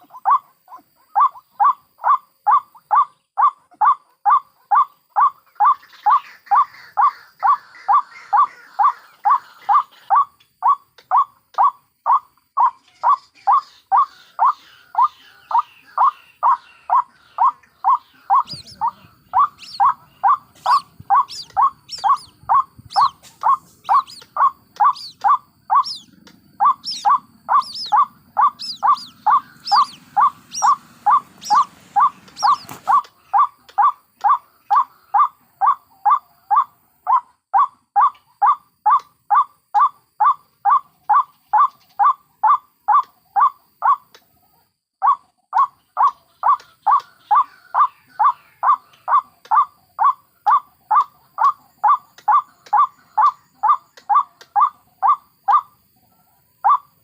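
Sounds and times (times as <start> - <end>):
waterhen calling: 0.0 - 44.0, 45.0 - 55.8
chicks high thin calls: 0.0 - 57.0.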